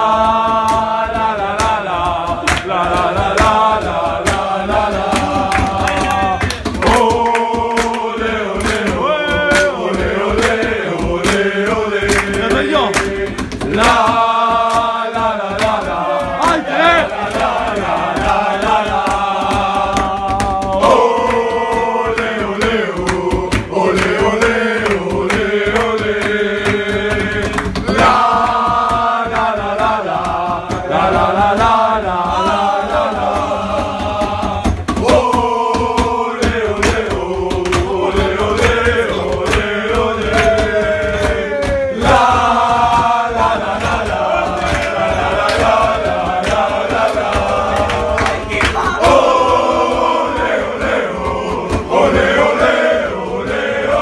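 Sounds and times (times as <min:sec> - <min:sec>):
percussion: 0:00.0 - 0:54.0
voices chanting long notes: 0:00.0 - 0:54.0.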